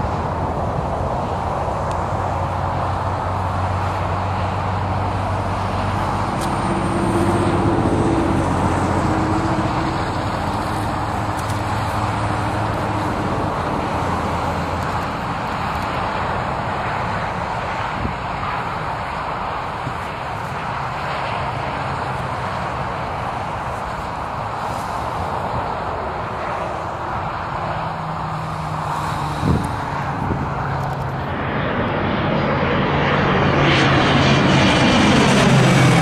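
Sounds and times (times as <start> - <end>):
distant aircraft engines: 0.0 - 36.0.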